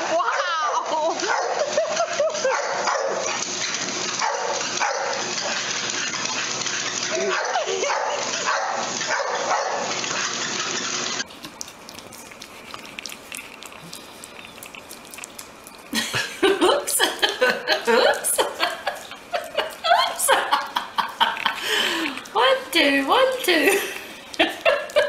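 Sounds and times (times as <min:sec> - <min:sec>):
puppy lapping and chewing food: 0:00.8 - 0:25.0.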